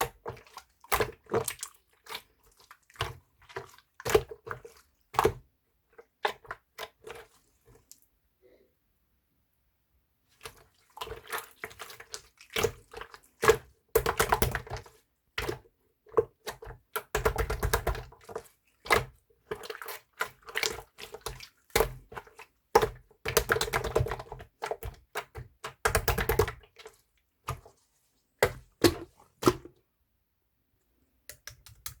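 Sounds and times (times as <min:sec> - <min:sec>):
hands kneading slime: 0:00.0 - 0:08.2, 0:10.2 - 0:29.8.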